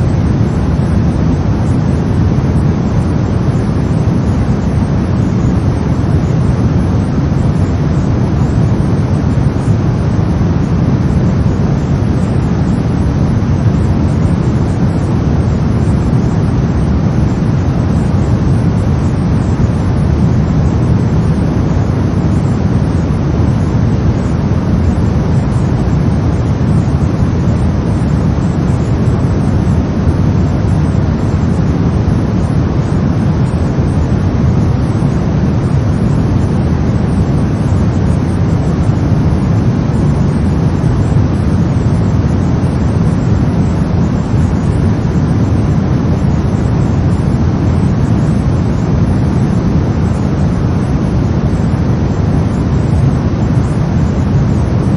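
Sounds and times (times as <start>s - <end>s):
brown noise rumble: 0.0s - 54.9s.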